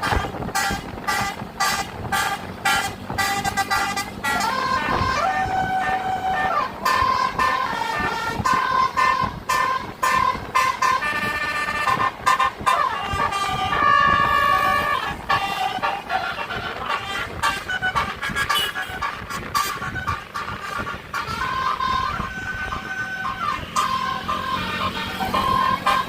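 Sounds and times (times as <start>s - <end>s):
horn playing a tune: 0.0s - 26.0s.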